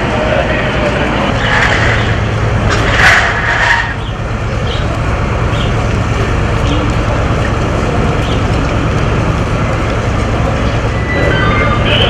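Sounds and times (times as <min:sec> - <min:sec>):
street noise: 0:00.0 - 0:12.0
vehicle engines rumbling: 0:00.0 - 0:12.0.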